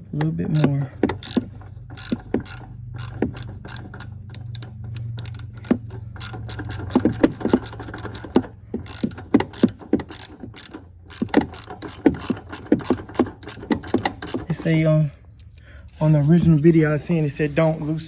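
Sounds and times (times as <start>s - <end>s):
steady low hum: 0.0s - 18.0s
hand ratchet clicking: 0.2s - 16.0s.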